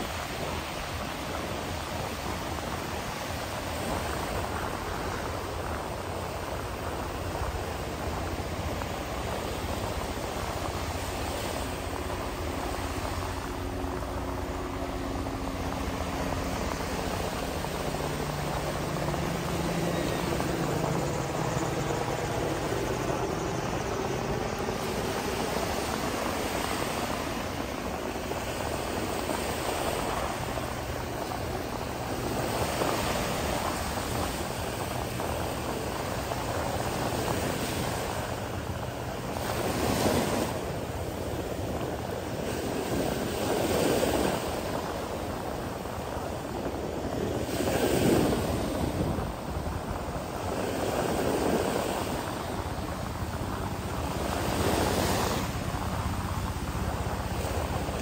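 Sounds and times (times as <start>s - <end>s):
low engine-like hum: 0.0s - 58.0s
ocean surf: 0.0s - 58.0s
wind: 0.0s - 58.0s.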